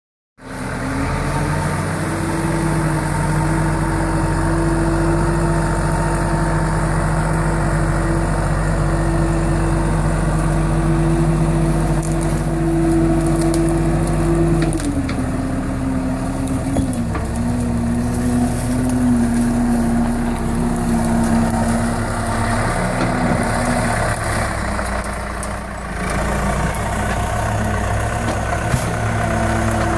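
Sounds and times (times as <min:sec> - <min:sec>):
skid steer engine running: 0:00.4 - 0:29.9.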